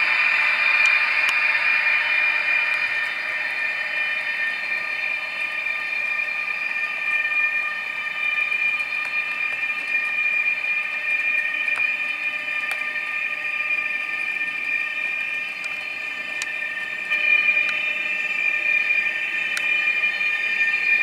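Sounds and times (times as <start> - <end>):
model train whining: 0.0 - 21.0.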